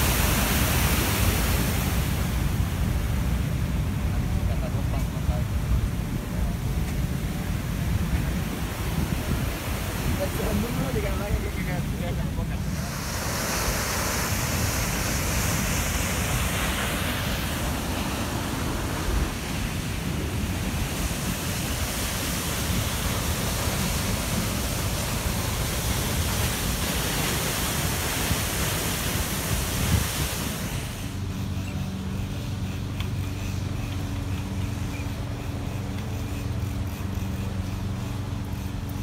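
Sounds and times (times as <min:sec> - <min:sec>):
wind buffeting microphone: 0:00.0 - 0:31.3
surf washing on beach: 0:00.0 - 0:32.9.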